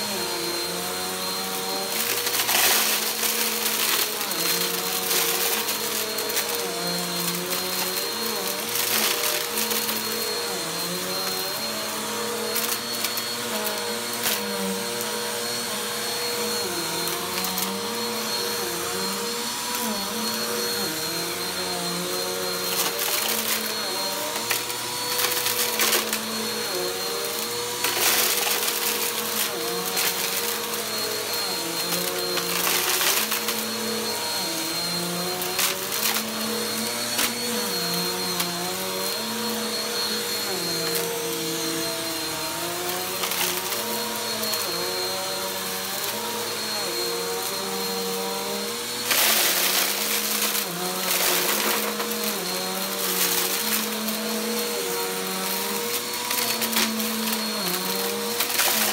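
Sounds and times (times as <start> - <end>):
vacuum cleaner motor running: 0.0 - 58.9.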